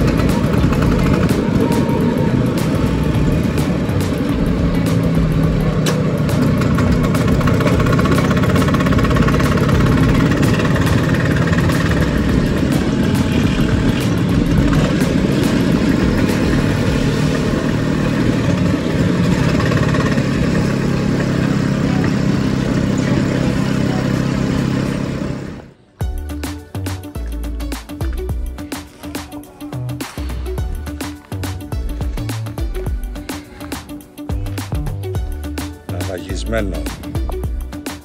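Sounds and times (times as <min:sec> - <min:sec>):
road noise: 0:00.0 - 0:38.0
scooter engine running: 0:00.0 - 0:38.0.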